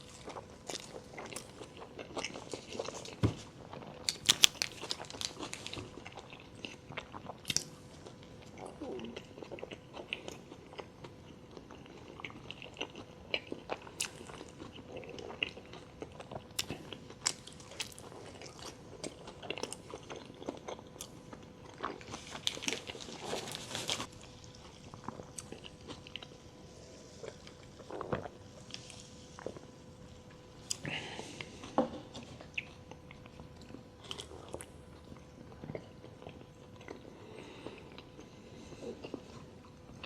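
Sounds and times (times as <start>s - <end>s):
crunchy food chewing: 0.0s - 40.0s
faint steady hum: 0.0s - 40.0s.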